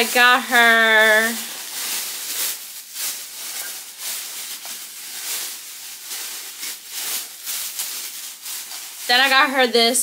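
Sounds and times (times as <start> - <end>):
wrapping crinkling: 0.0 - 10.0.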